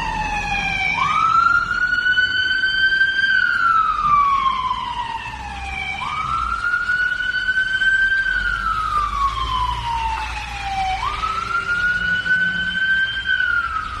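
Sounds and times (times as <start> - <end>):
fire engine siren wailing: 0.0 - 14.0
truck engine rumbling: 0.0 - 14.0.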